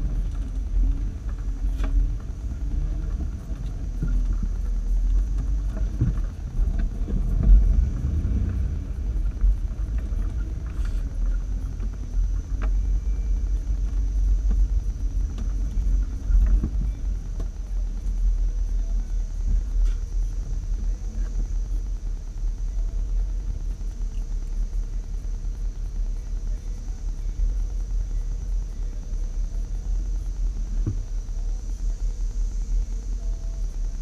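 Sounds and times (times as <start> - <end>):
engine low rumble: 0.0 - 34.0.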